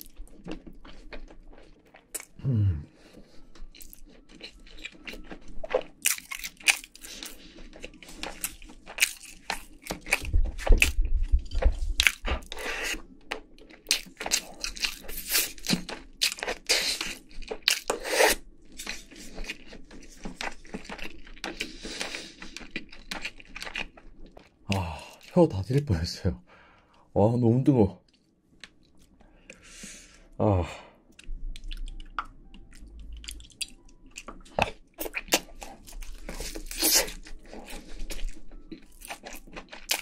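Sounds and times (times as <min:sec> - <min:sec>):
chewing crispy food: 0:00.0 - 0:25.9, 0:28.0 - 0:30.2, 0:31.1 - 0:40.0.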